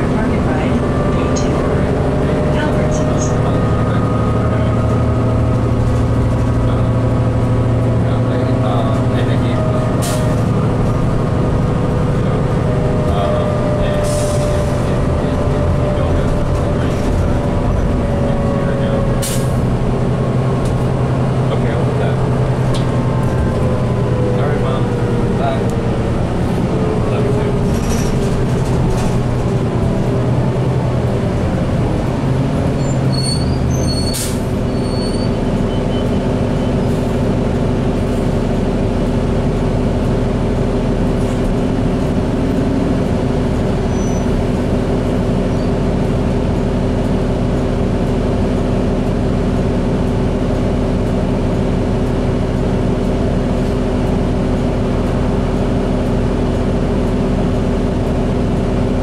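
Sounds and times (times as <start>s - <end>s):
bus engine and drivetrain drone: 0.0s - 59.0s.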